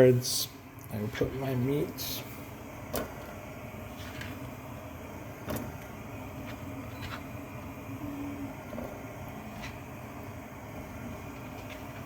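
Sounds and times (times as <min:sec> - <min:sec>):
hot oil hissing in frying pan: 0:00.0 - 0:12.0.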